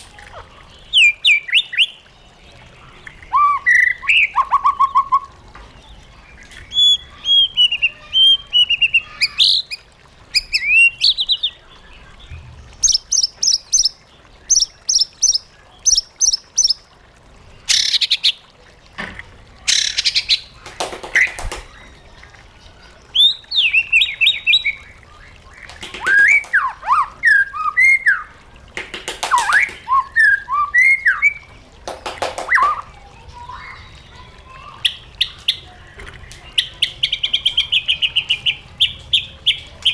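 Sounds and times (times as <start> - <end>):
songbird singing: 0.0 - 18.5, 19.6 - 28.4, 29.2 - 39.9.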